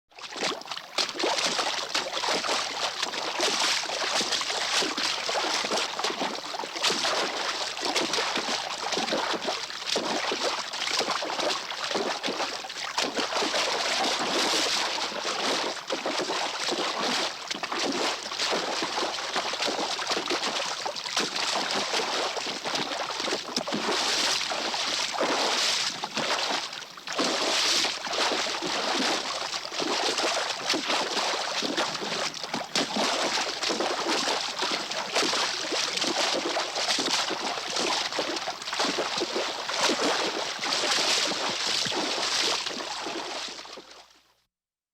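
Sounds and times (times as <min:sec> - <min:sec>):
horse splashing through water: 0:00.2 - 0:44.0.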